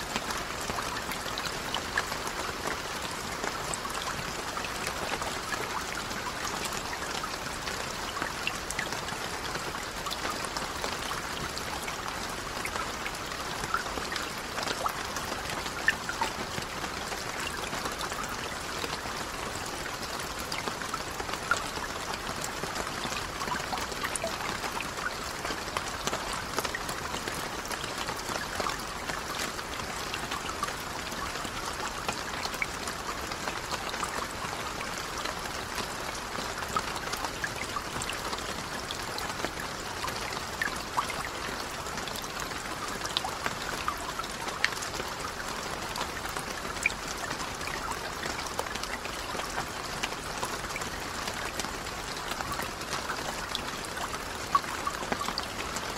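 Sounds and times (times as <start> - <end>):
raindrops splashing: 0.0 - 55.9.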